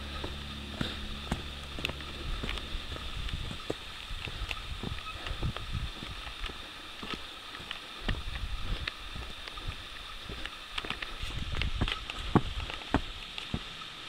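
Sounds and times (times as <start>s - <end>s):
footsteps on dirt trail: 0.0s - 13.8s.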